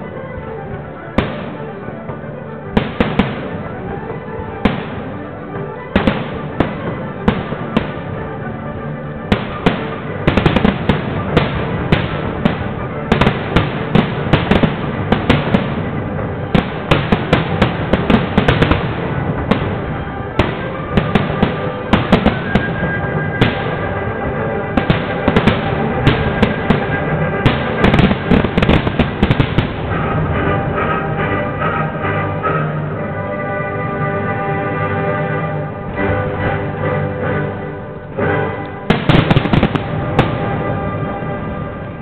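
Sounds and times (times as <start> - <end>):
fireworks crackle: 0.0 - 32.9, 38.6 - 42.0
fireworks bangs: 0.0 - 33.0, 38.3 - 42.0.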